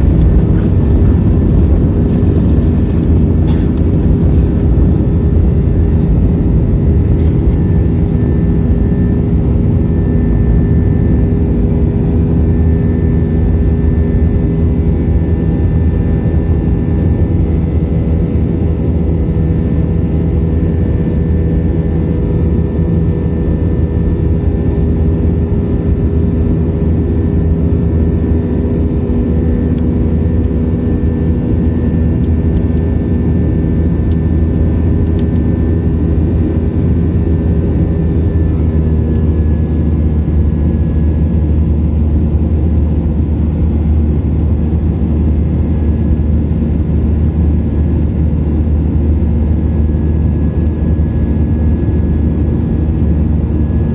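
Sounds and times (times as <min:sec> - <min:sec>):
jet engines droning in cabin: 0:00.0 - 0:53.9.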